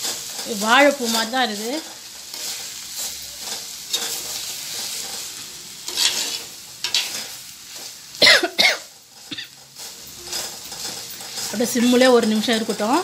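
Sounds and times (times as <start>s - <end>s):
metal spatula scraping pot: 0.0s - 7.9s, 9.2s - 13.0s
food sizzling: 0.0s - 13.0s.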